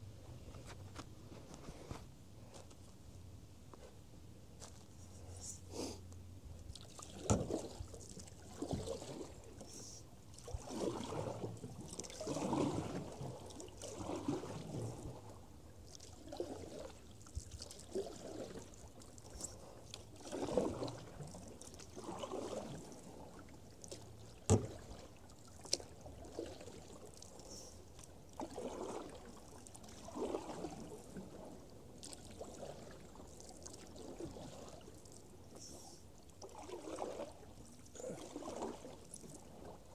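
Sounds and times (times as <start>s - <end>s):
paddle swishing through water: 0.2s - 3.0s, 4.6s - 39.9s.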